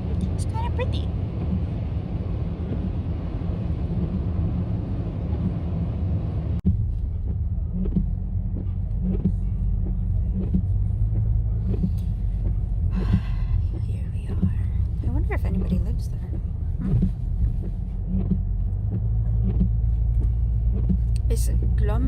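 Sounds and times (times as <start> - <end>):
car road noise rumble: 0.0 - 22.0.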